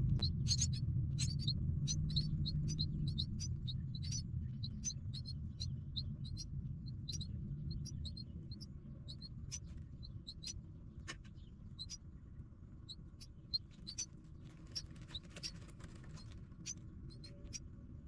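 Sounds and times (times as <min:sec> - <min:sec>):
low background rumble: 0:00.0 - 0:18.0
high-pitched nestling chirps: 0:00.2 - 0:10.6, 0:11.4 - 0:12.0, 0:12.8 - 0:17.7.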